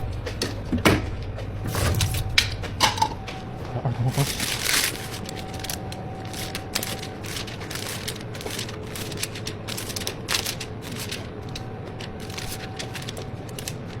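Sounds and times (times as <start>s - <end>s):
low hum of shop equipment: 0.0s - 14.0s.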